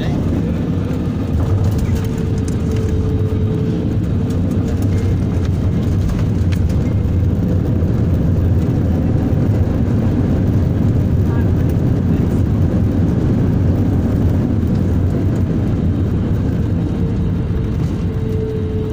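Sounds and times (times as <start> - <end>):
airliner engines rumbling: 0.0 - 18.9.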